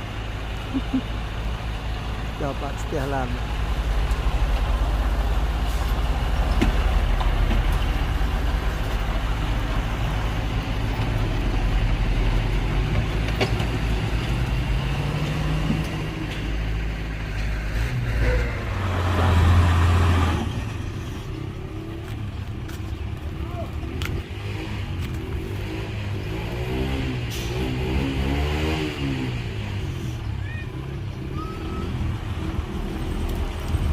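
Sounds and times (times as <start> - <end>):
heavy diesel engine running: 0.0 - 28.4.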